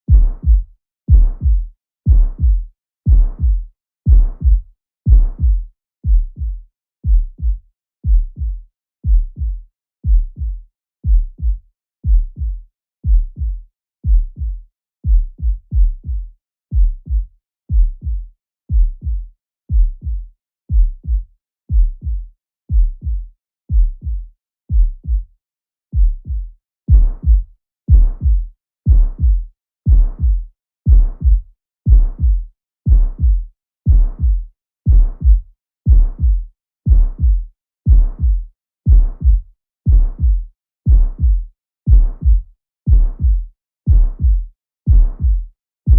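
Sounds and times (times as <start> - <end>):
heartbeat through stethoscope: 0.0 - 25.3, 25.9 - 45.9
harsh heart murmur: 0.1 - 25.2, 25.9 - 45.9.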